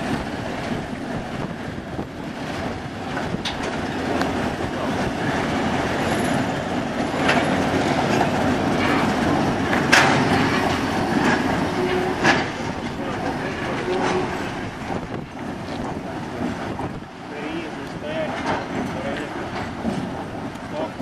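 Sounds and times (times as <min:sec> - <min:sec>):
diesel locomotive engines running: 0:00.0 - 0:21.0
wheels clacking over rail joints: 0:00.0 - 0:21.0.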